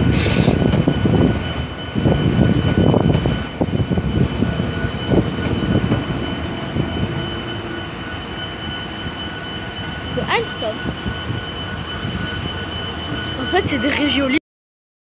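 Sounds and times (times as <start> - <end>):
steady high whine: 0.0 - 14.4
train rumbling past: 0.0 - 14.4.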